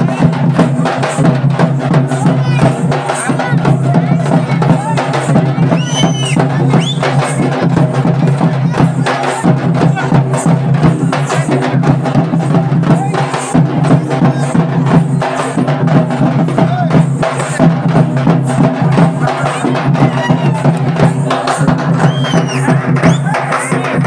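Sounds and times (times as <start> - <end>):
crowd voices: 0.0 - 24.0
drums beaten fast: 0.0 - 24.0.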